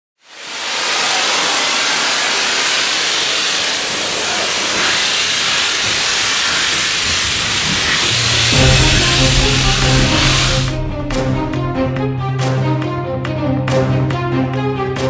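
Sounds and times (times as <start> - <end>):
locomotive steam hissing: 0.2 - 12.3.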